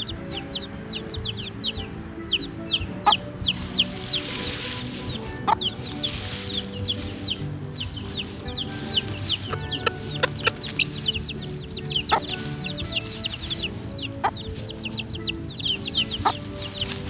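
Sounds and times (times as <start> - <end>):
baby chicks peeping: 0.0 - 17.0
background music: 0.0 - 17.0.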